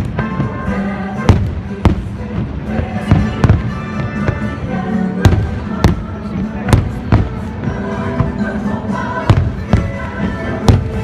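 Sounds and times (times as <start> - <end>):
fireworks bursting: 0.0 - 8.6, 9.2 - 11.0
orchestral music: 0.0 - 11.0.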